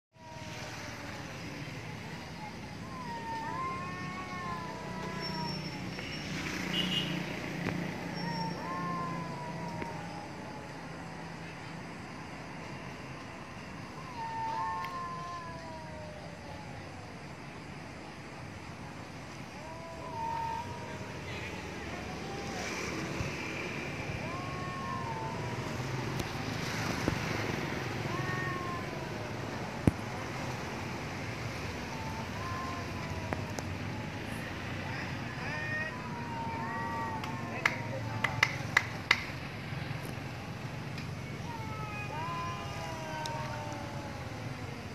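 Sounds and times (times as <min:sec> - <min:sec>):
cats yowling: 0:00.2 - 0:06.6, 0:07.6 - 0:11.1, 0:13.8 - 0:17.1, 0:19.3 - 0:39.5, 0:40.4 - 0:44.9
distant traffic hum: 0:00.2 - 0:44.9.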